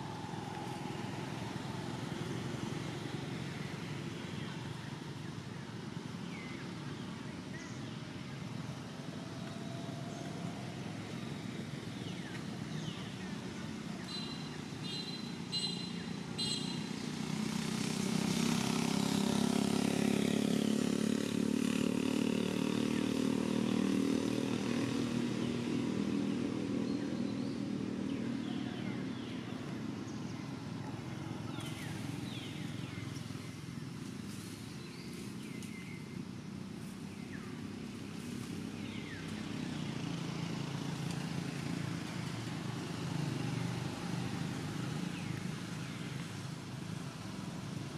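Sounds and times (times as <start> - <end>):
vehicle engine passing by: 0.0 - 5.4, 7.9 - 36.1, 36.8 - 47.9
steady background noise: 0.0 - 47.9.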